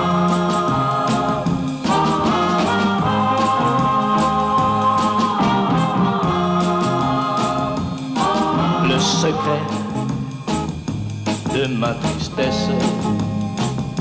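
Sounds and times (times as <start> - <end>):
pop song from vinyl record: 0.0 - 14.0.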